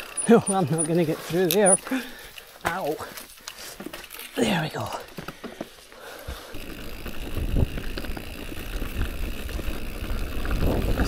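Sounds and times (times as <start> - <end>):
bike tyres rumbling on rough track: 0.0 - 11.0.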